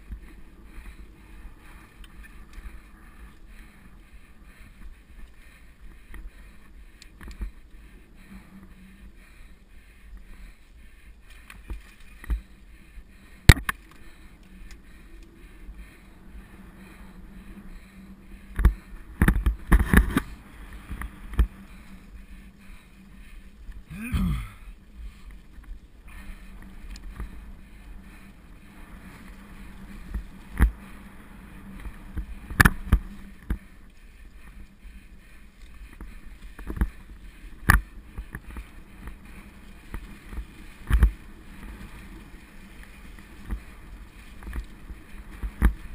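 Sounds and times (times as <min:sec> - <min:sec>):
bike rolling on dirt: 0:00.0 - 0:45.9.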